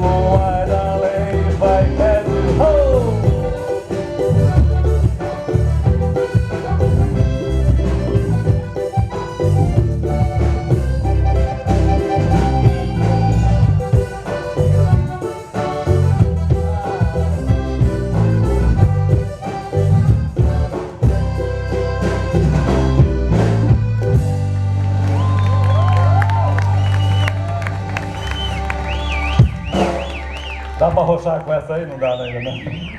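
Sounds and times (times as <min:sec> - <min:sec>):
instrumental music with busy bass: 0:00.0 - 0:32.9.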